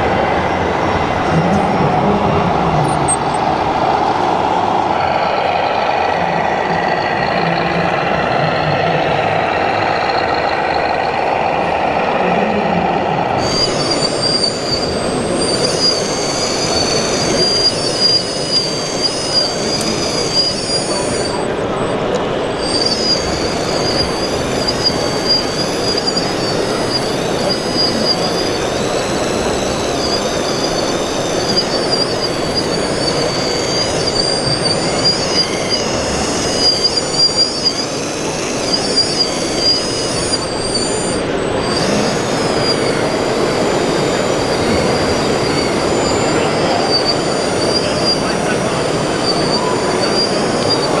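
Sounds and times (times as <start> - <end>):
small electric motors whining: 0.0 - 51.0
steady background din: 0.0 - 51.0
steady background noise: 0.0 - 51.0.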